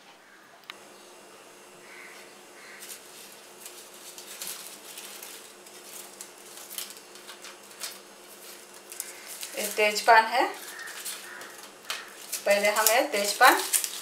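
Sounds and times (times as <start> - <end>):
dry leaves crackling: 1.8 - 14.0.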